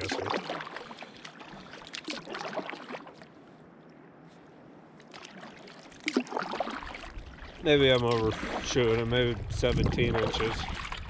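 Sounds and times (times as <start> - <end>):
splashing and handling noise: 0.0 - 3.4, 5.0 - 11.0
water lapping around canoe: 0.0 - 11.0.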